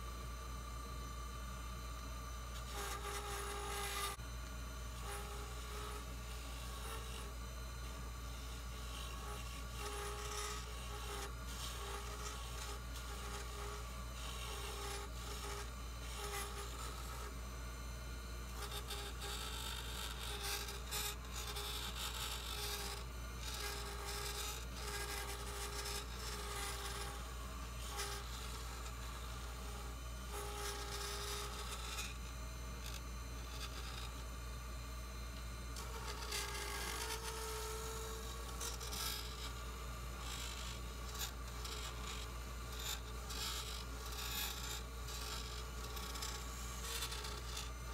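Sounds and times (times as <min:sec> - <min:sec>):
lathe humming: 0:01.9 - 0:47.9
turning tool scraping wood: 0:02.5 - 0:04.2, 0:05.0 - 0:17.3, 0:18.5 - 0:34.2, 0:35.7 - 0:47.9.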